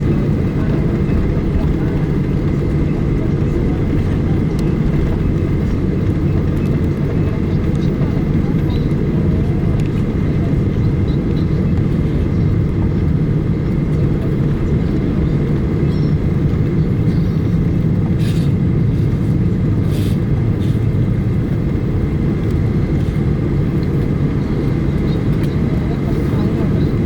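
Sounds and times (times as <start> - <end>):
jet engines low rumble: 0.0 - 27.0.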